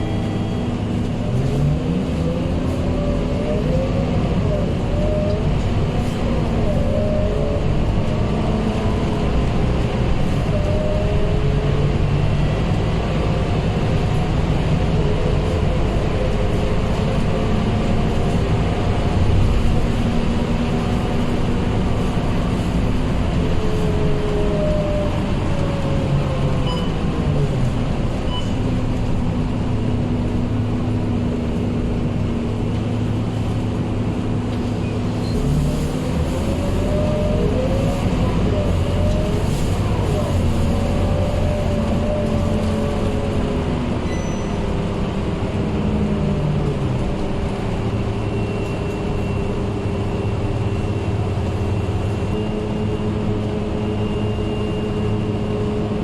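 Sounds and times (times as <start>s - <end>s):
bus diesel engine: 0.0s - 56.0s
road and tyre noise: 0.0s - 56.0s.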